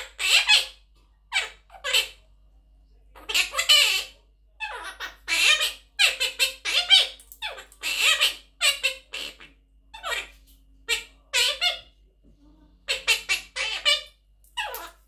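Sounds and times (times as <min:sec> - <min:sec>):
parrot talking: 0:00.0 - 0:02.3, 0:03.1 - 0:12.0, 0:12.7 - 0:15.0.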